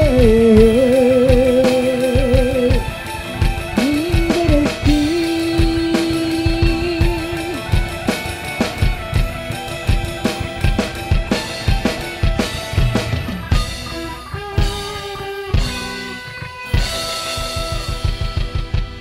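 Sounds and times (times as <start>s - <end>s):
drum kit beat: 0.0s - 19.0s
guitar: 0.0s - 19.0s
live band playing: 0.0s - 19.0s.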